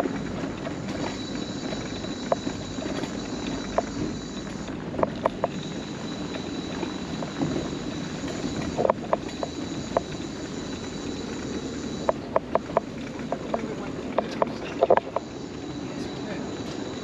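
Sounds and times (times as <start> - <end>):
scooter rolling on wooden boardwalk: 0.0 - 17.0
wheels clacking over plank joints: 0.0 - 17.0.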